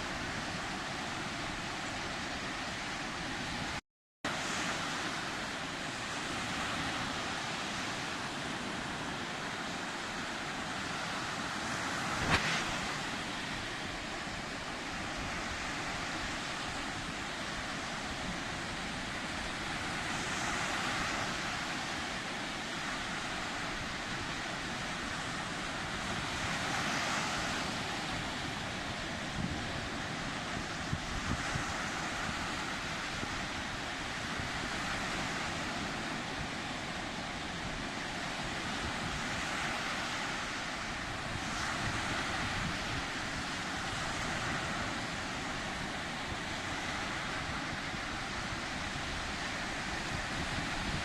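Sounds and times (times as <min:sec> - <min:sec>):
sea surf washing: 0:00.0 - 0:51.0.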